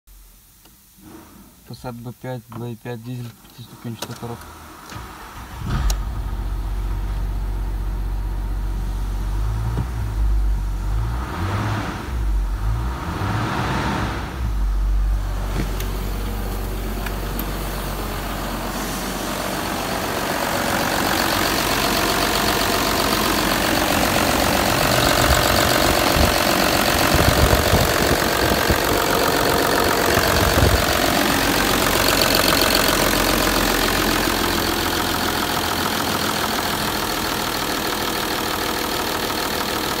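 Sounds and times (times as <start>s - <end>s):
diesel engine idling: 4.2s - 40.0s.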